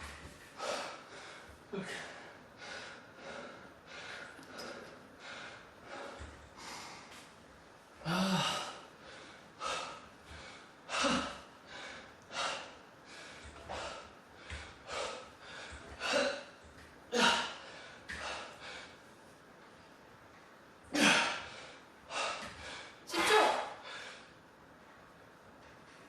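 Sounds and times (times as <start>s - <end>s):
man breathing hard: 0.4s - 7.3s, 8.0s - 19.2s, 21.0s - 23.1s, 23.7s - 24.6s.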